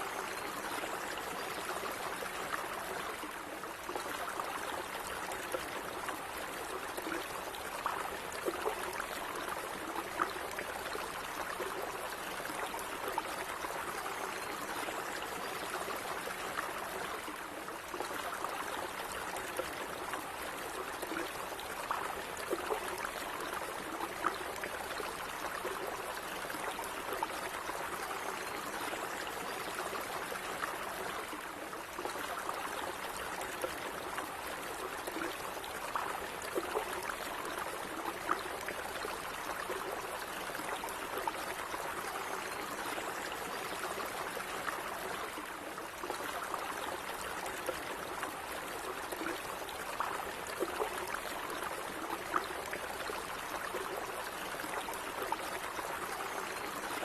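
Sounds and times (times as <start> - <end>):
stream of water gurgling: 0.0 - 57.0.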